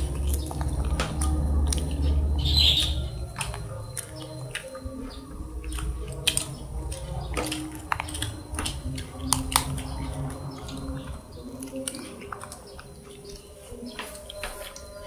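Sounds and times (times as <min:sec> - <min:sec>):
guava fruit cracking while eaten: 0:00.0 - 0:15.0
low rumble of handling noise: 0:00.0 - 0:15.0.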